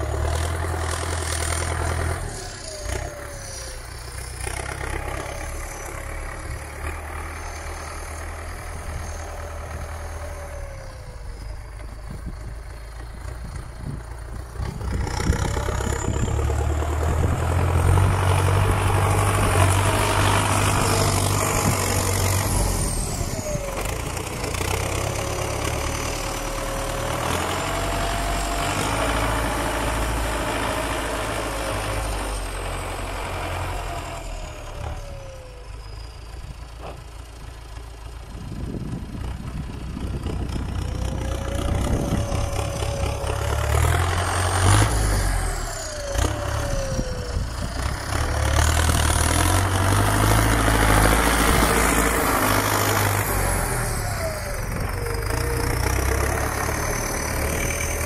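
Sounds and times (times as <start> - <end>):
tractor diesel engine with whistle: 0.0 - 37.9, 40.0 - 58.0.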